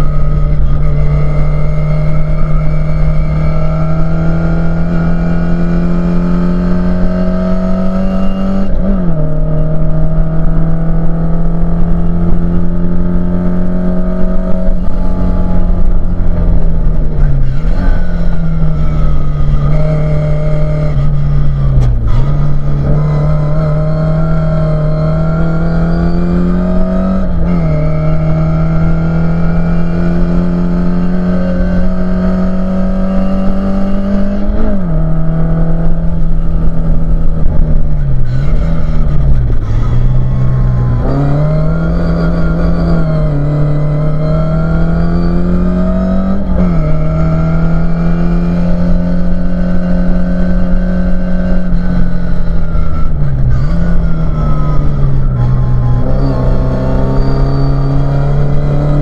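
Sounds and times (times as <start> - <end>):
race car engine accelerating: 0.0 - 59.0
road and tyre noise: 0.0 - 59.0.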